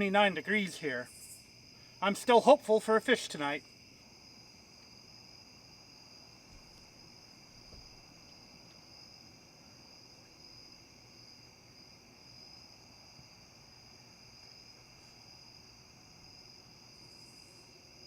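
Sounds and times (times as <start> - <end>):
night insects trilling: 0.0 - 18.0.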